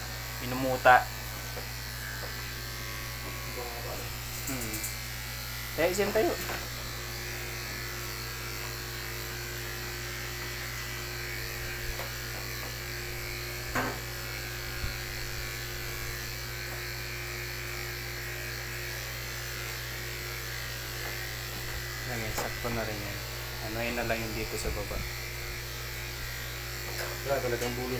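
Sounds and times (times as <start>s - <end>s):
electric clippers humming: 0.0s - 27.9s.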